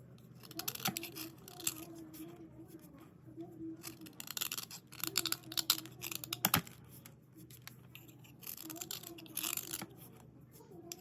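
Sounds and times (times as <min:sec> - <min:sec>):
slate pencils scraping: 0:00.2 - 0:03.1, 0:03.7 - 0:11.0.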